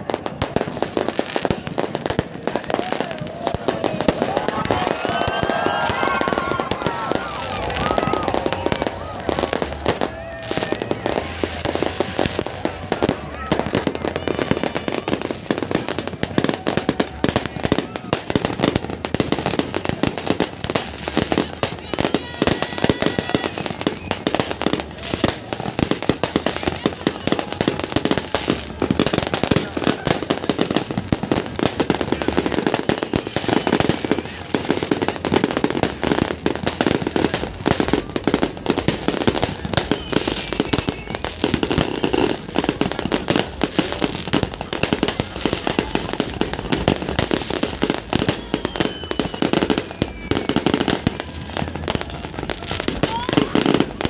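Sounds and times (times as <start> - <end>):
fireworks bangs and crackling: 0.0 - 54.0
voices: 0.1 - 54.0.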